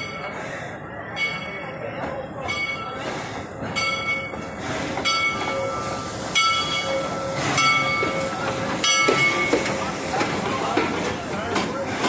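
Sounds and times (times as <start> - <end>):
locomotive bell ringing: 0.0 - 11.8
train rumbling on track: 0.0 - 12.0.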